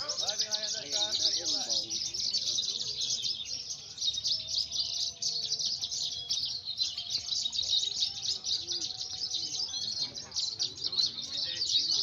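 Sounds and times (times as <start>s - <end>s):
bird singing rapid trills: 0.0s - 12.0s.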